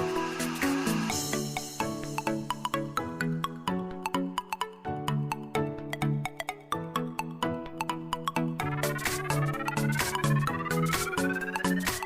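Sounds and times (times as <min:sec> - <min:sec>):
light bouncy background music: 0:00.0 - 0:12.0.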